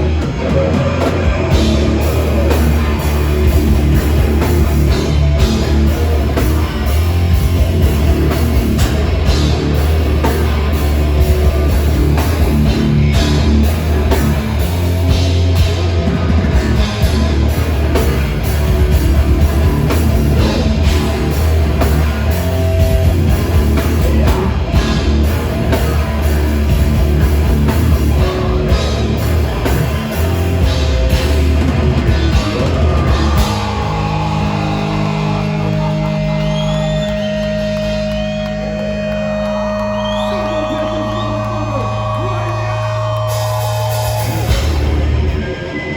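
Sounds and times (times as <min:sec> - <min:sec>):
heavy metal band playing: 0:00.0 - 0:45.9
pounding drum kit: 0:00.0 - 0:45.9.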